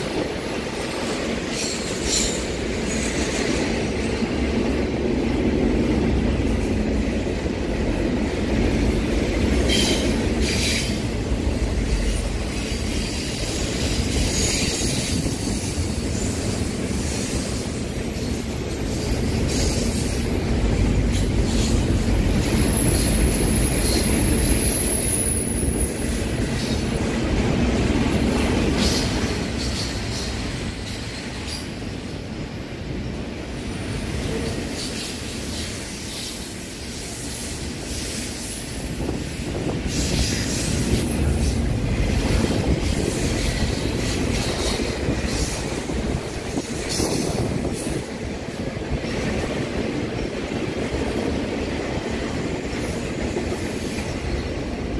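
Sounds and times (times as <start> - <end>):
steel train wheels rumbling on rail: 0.0 - 54.9.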